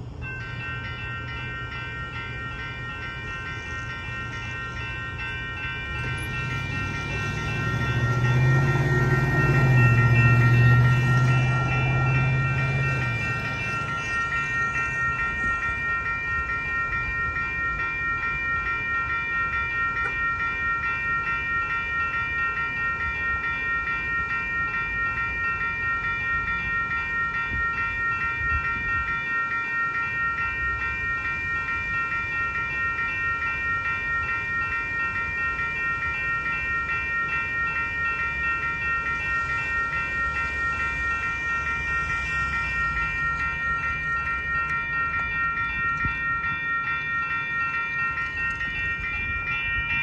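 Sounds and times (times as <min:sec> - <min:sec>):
railroad crossing bell ringing: 0:00.0 - 0:50.0.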